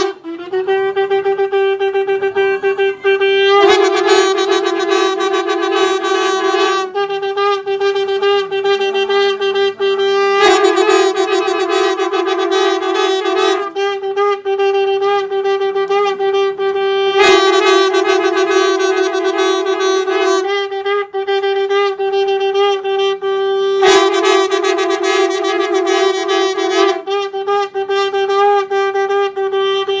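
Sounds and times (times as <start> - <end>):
conch shell blowing: 0.0 - 30.0.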